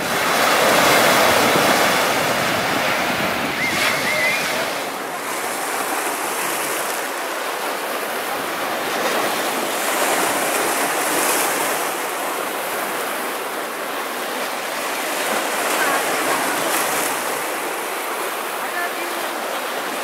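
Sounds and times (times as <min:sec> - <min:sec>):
sea waves washing over rocks: 0:00.0 - 0:20.0.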